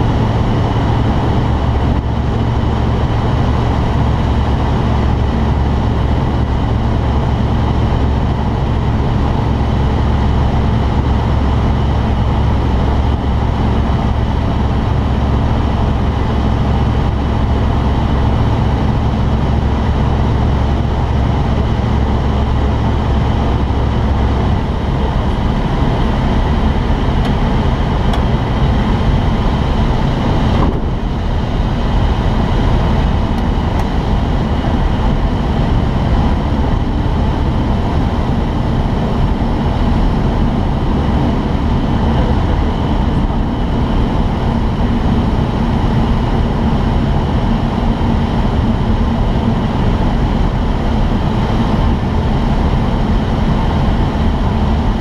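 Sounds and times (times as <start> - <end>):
aircraft piston engine drone: 0.0 - 55.0.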